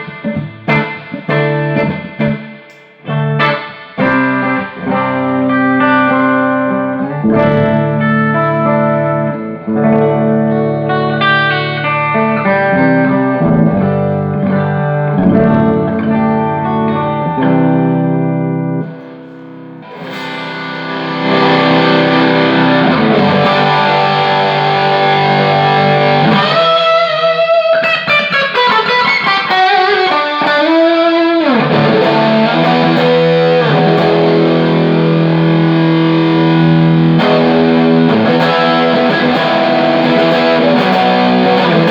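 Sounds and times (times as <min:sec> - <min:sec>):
electric guitar through amp: 0:00.0 - 0:41.9.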